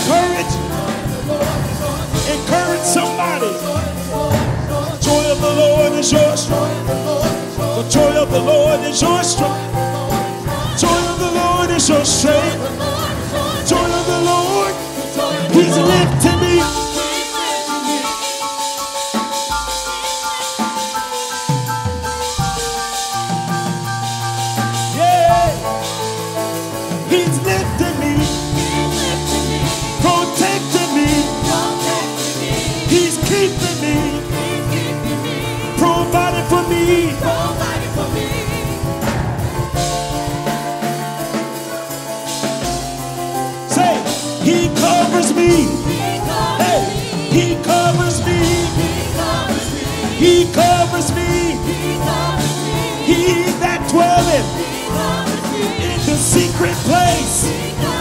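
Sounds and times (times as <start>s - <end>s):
group singing into microphones: 0.0s - 23.2s, 24.5s - 41.8s, 42.5s - 58.0s
drum kit: 0.0s - 58.0s
keyboard: 0.0s - 58.0s.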